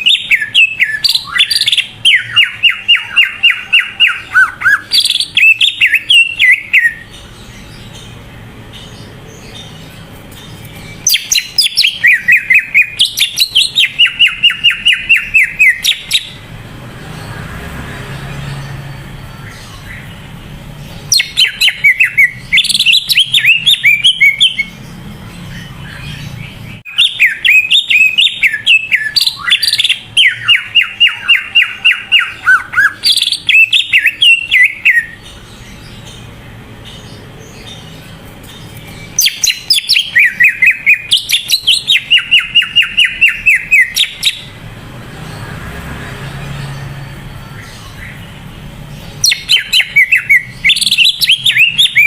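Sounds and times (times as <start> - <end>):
bird singing rapid chirps: 0.0 - 52.0.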